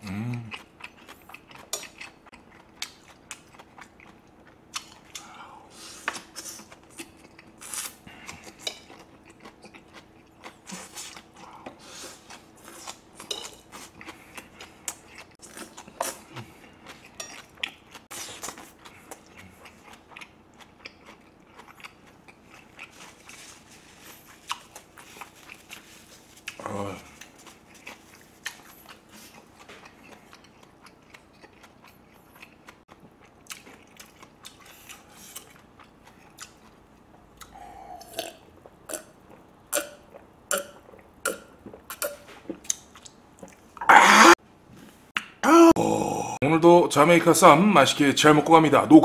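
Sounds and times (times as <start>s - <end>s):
chewing crunchy vegetables: 0.0s - 5.5s, 6.1s - 43.9s.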